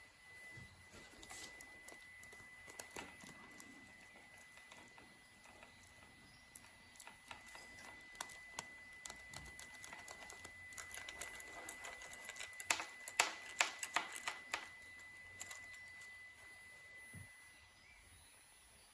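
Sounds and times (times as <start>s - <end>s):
faint high whine: 0.0s - 18.9s.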